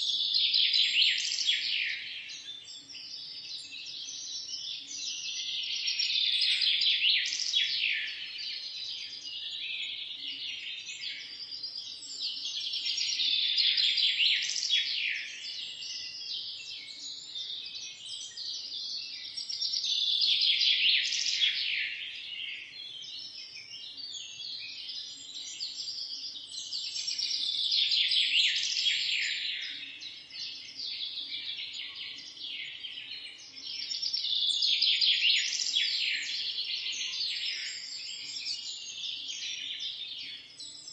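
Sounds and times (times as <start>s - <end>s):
small birds chirping in chorus: 0.0s - 40.9s.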